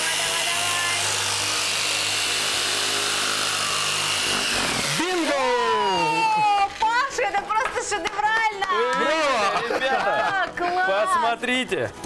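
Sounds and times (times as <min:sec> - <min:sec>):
electric jigsaw cutting foam: 0:00.0 - 0:12.0.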